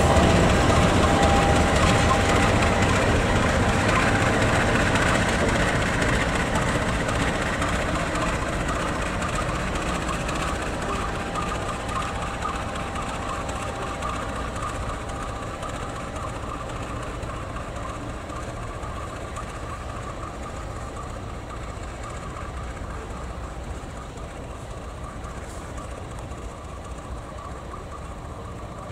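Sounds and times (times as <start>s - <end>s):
locomotive engine: 0.0s - 28.9s
train wheels on rails: 0.0s - 28.9s.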